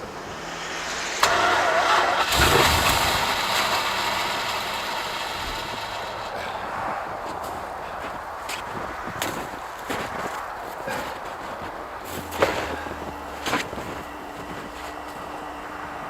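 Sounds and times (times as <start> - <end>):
car engine cold-starting: 0.0 - 16.0.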